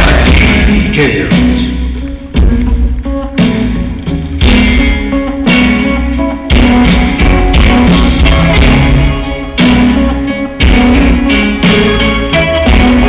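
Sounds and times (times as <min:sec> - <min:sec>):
live band with heavy bass: 0:00.0 - 0:13.0.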